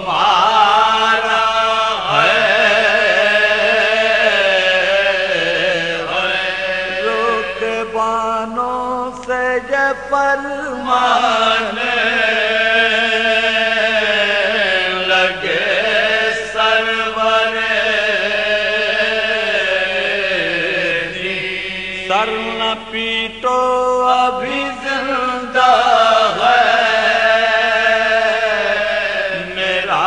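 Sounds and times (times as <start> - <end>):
man chanting: 0.0 - 30.0.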